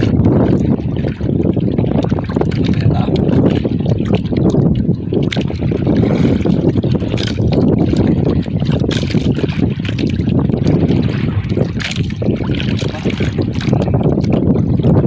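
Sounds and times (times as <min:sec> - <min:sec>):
boat rumbling: 0:00.0 - 0:15.0
wind buffeting microphone: 0:00.0 - 0:15.0.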